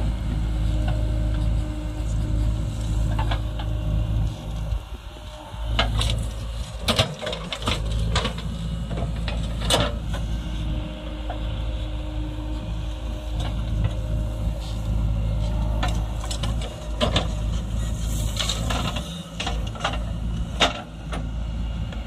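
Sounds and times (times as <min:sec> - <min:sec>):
backhoe digging soil: 0:00.0 - 0:22.0
diesel engine running under load: 0:00.0 - 0:22.0.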